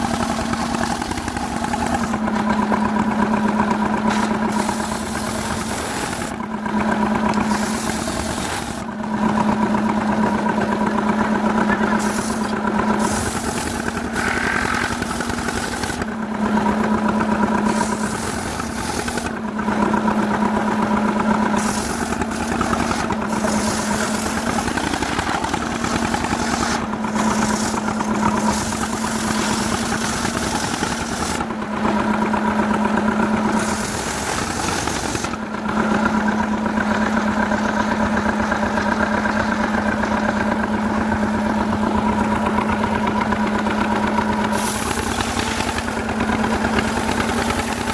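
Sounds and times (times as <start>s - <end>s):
chainsaw cutting wood: 0.0s - 6.4s, 7.0s - 10.5s, 11.4s - 36.1s, 42.0s - 47.9s.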